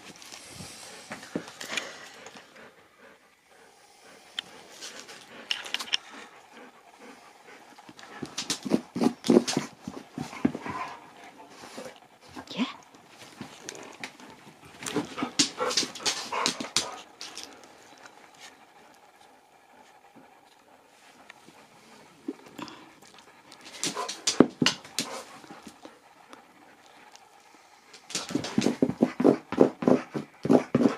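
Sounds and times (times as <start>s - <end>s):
dog panting: 0.0s - 30.9s.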